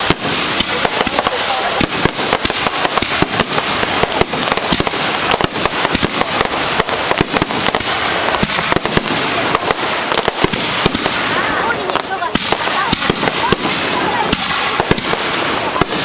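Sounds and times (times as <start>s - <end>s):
fireworks crackling and popping: 0.0s - 16.0s
steady hiss: 0.0s - 16.0s.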